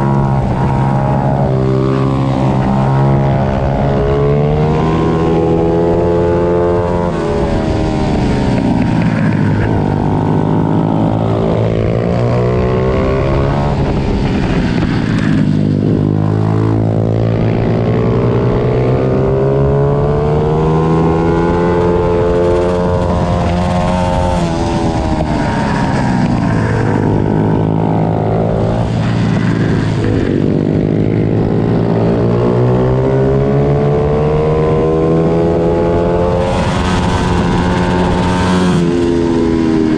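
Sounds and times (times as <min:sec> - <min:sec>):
small motorbike engines revving: 0:00.0 - 0:39.9.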